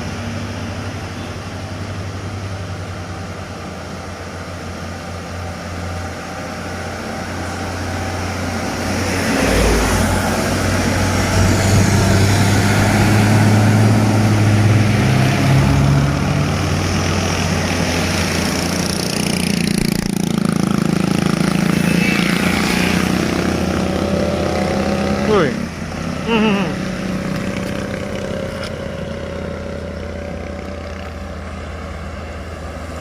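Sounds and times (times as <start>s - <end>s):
diesel truck engine pulling uphill: 0.0s - 33.0s.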